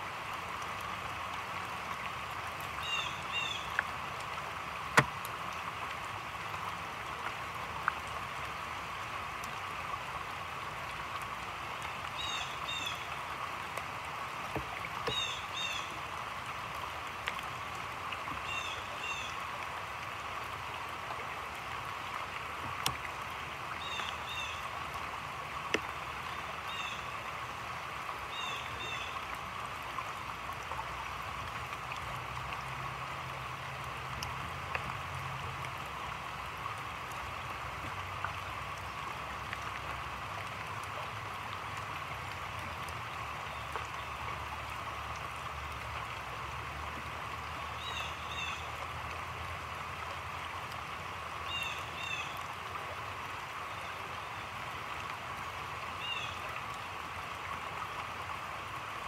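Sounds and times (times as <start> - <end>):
heavy rain on water: 0.0 - 59.0
sharp close drips: 0.3 - 53.0.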